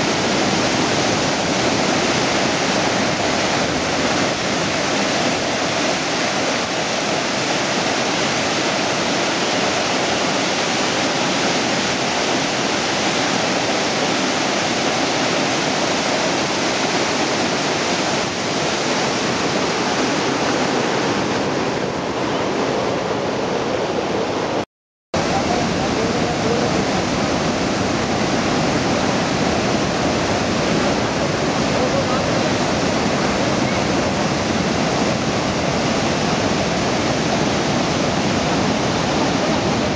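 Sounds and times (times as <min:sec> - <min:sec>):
water rushing through spillway: 0:00.0 - 0:24.6, 0:25.2 - 0:39.9.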